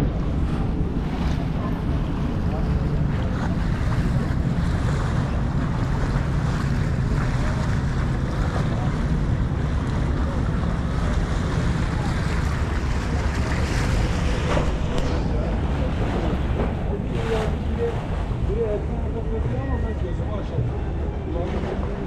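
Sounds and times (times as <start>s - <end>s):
open-air ambience by water: 0.0s - 22.0s
wind buffeting microphone: 0.0s - 22.0s.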